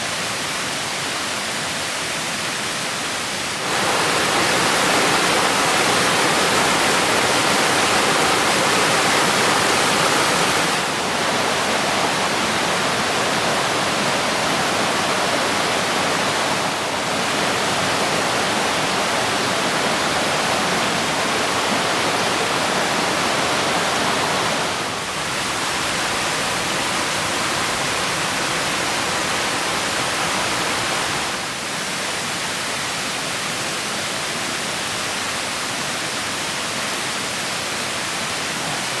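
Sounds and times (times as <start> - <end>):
stream water rushing: 0.0 - 39.0.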